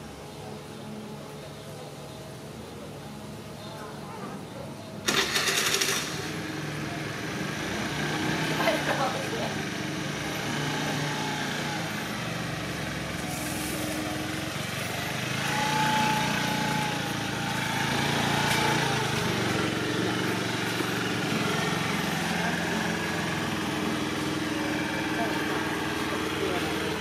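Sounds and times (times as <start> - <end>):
scooter engine droning: 2.8 - 27.0.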